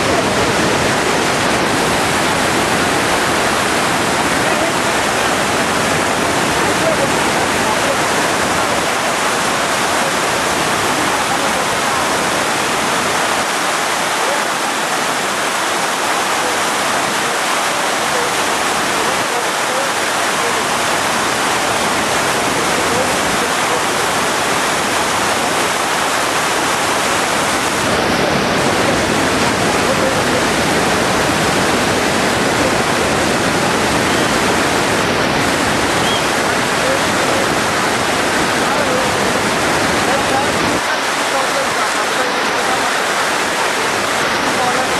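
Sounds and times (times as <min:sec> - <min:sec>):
waterfall rushing over rocks: 0:00.0 - 0:44.9.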